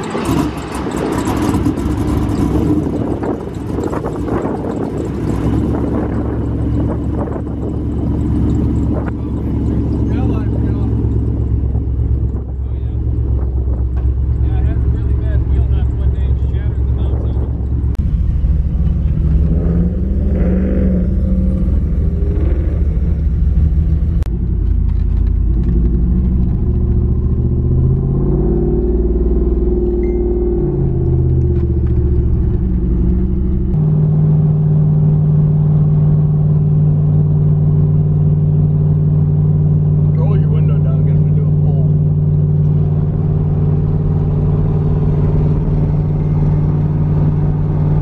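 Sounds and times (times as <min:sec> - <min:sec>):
vehicle engine and road noise: 0:00.0 - 0:48.0.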